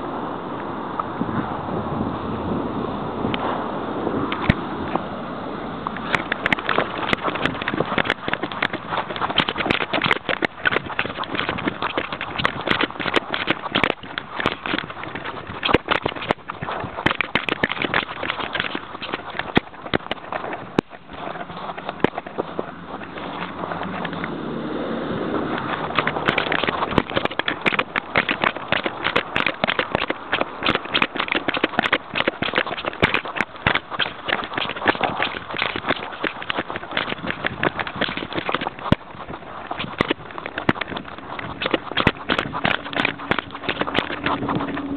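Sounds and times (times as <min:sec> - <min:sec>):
rustling: 0:05.8 - 0:24.4, 0:25.4 - 0:44.9
paws crunching through snow: 0:05.9 - 0:24.3, 0:25.5 - 0:44.9
camera rubbing against fur: 0:05.9 - 0:24.4, 0:25.4 - 0:44.9.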